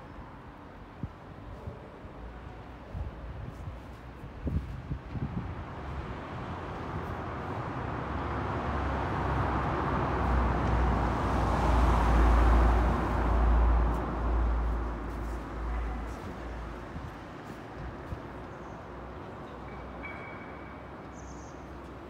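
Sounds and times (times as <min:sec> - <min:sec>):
vehicle engine rumble: 0:00.0 - 0:19.8.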